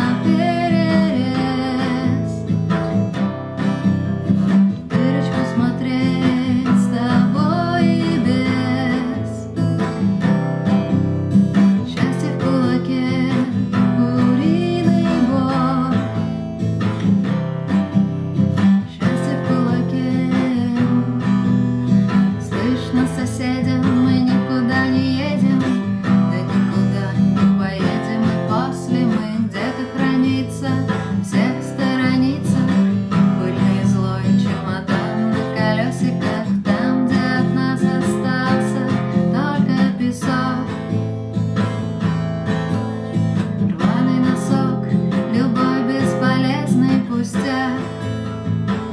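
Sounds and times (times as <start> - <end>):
person singing: 0.0 - 2.9, 4.8 - 9.9, 11.8 - 16.3, 18.8 - 41.3, 43.6 - 48.3
strummed acoustic guitar: 0.0 - 48.9.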